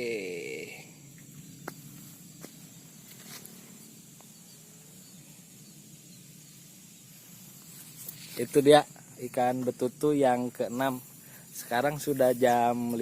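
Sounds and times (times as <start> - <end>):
high insect hum: 0.0 - 13.0.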